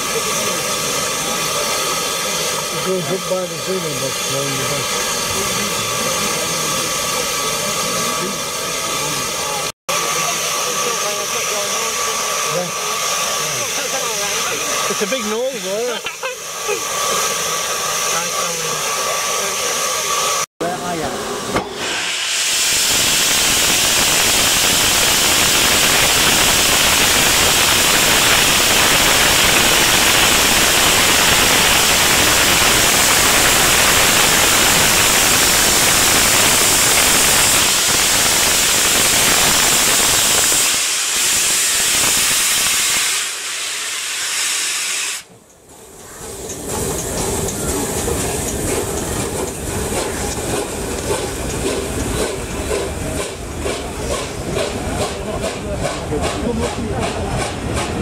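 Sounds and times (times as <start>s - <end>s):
steam hissing: 0.0s - 58.0s
train running noise: 0.0s - 58.0s.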